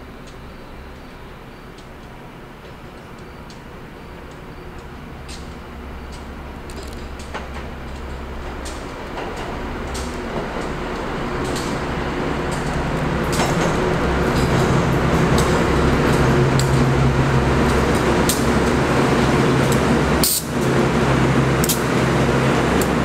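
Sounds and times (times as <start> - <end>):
diesel locomotive drone: 0.0 - 23.0.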